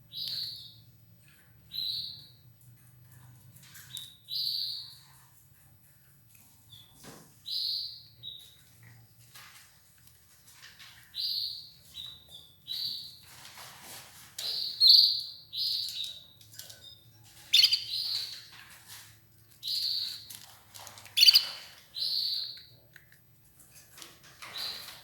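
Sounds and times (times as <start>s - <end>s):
canary chirping: 0.0s - 9.6s, 10.5s - 25.0s.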